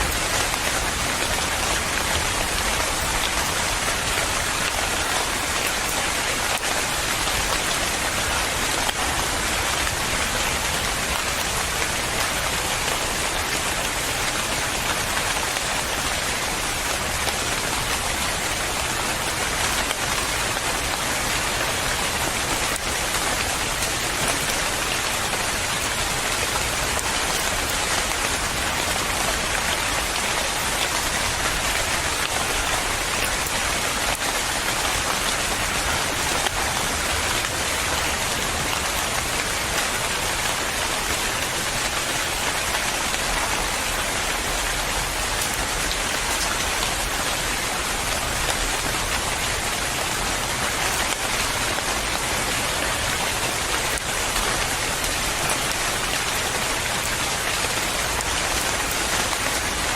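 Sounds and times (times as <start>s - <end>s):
dense rain pattering: 0.0s - 59.9s.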